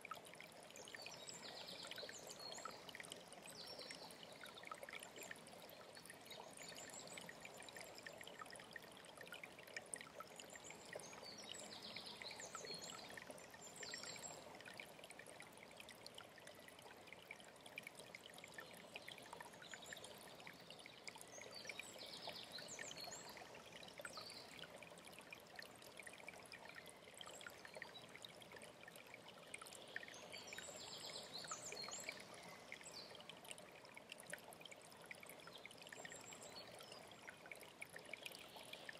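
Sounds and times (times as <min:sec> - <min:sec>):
stream trickling and splashing: 0:00.0 - 0:38.9.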